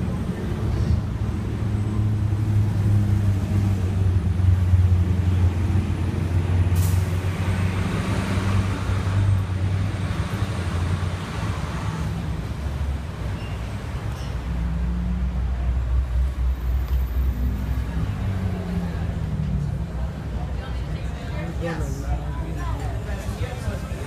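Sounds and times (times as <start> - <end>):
road traffic: 0.0 - 24.0
vehicle engine rumbling: 0.0 - 24.0.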